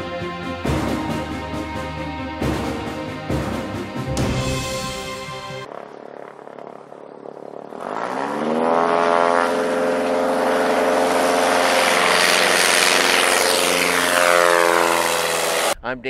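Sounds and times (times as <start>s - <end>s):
light aircraft engine and propeller: 0.0s - 15.8s.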